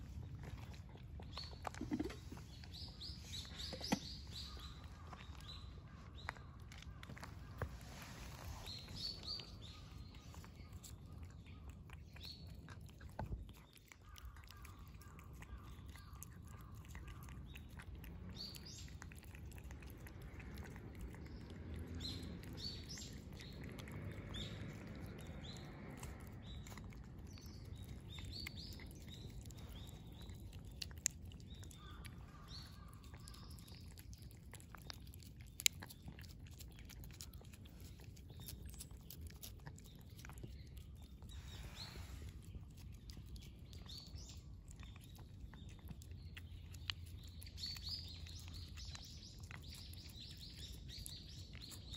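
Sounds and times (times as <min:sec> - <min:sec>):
cats licking and chewing: 0:00.0 - 0:51.9
small birds chirping: 0:00.0 - 0:51.9.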